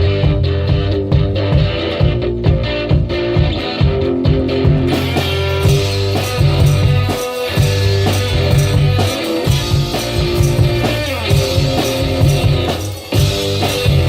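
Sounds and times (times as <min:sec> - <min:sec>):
low bass line: 0:00.0 - 0:14.0
steady drum beat: 0:00.0 - 0:14.0
strummed guitar: 0:00.0 - 0:14.0.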